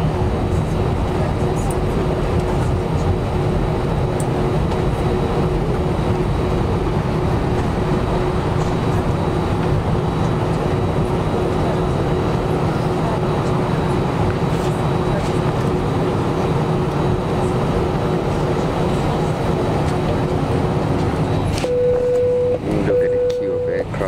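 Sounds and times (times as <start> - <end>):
jet engines idling in cabin: 0.0 - 24.0.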